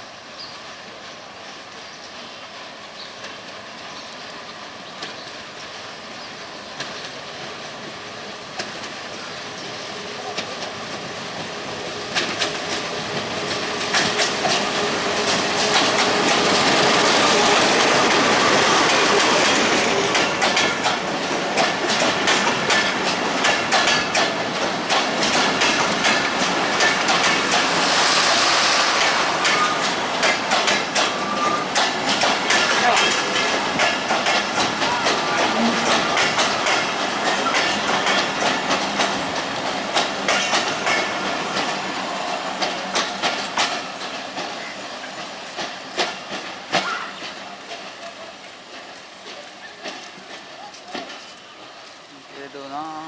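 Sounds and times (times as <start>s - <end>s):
diesel train passing: 0.0s - 53.0s
wheels clacking over rail joints: 1.8s - 53.0s.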